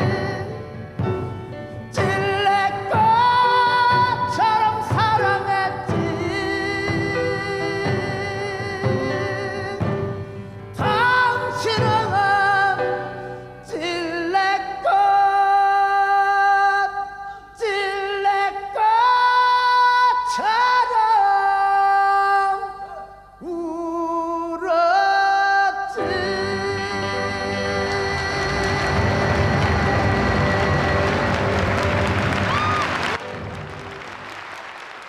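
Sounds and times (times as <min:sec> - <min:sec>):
wordless traditional-style singing: 0:02.0 - 0:10.0, 0:10.8 - 0:31.6.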